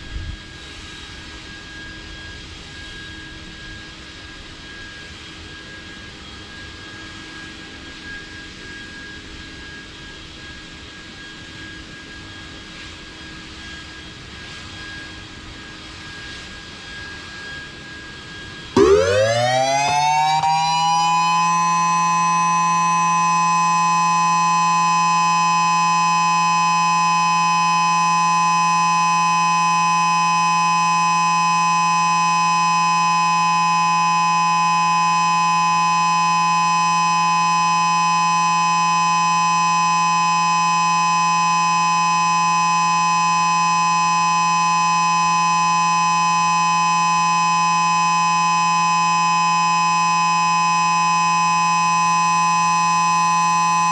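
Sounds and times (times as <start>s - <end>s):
siren steady tone: 0.0s - 53.9s.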